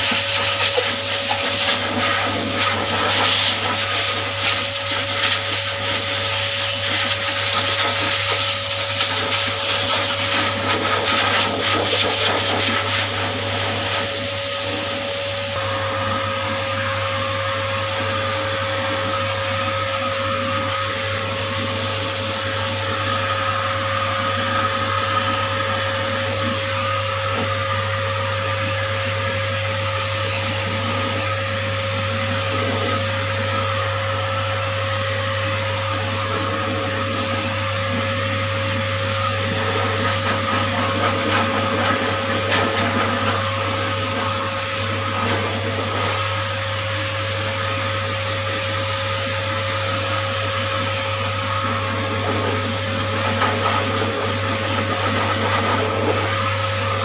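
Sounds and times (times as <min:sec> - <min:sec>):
pet dryer blowing air: 0:00.0 - 0:57.0.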